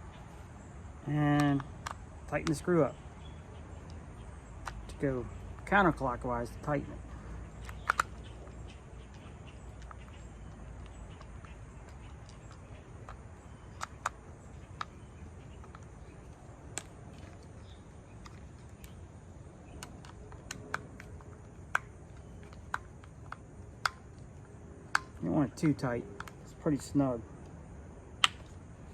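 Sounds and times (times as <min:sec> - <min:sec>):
low steady hum: 0:00.0 - 0:28.9.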